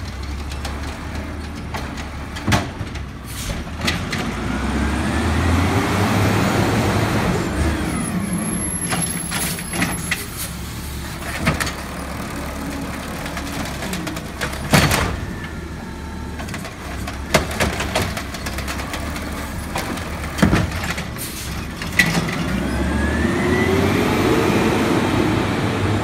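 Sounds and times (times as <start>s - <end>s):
truck engine whine: 0.0s - 26.0s.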